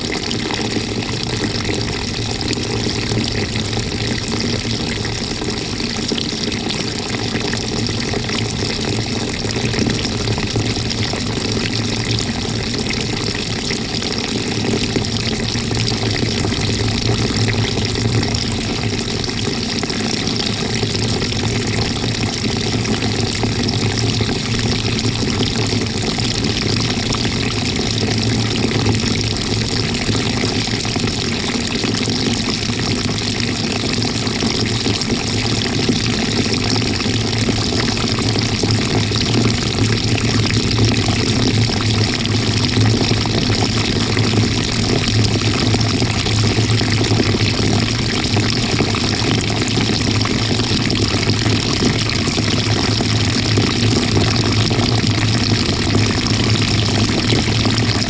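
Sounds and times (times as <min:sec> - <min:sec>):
water churning in washing machine: 0:00.0 - 0:58.0.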